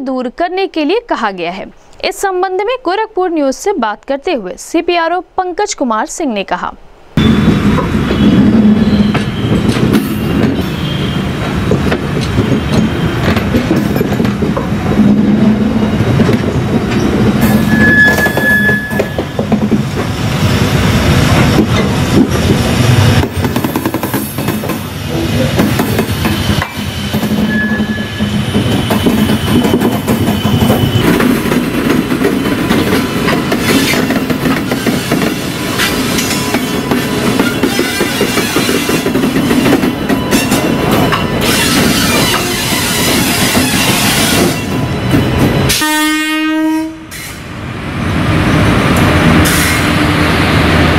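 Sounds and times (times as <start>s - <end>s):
train rumbling past: 6.9s - 50.9s.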